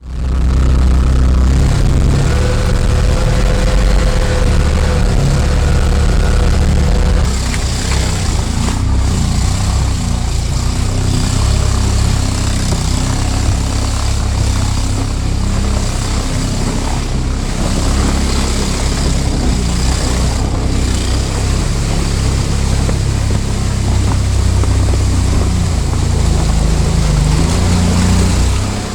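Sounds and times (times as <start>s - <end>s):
engine droning under load: 0.0s - 28.9s.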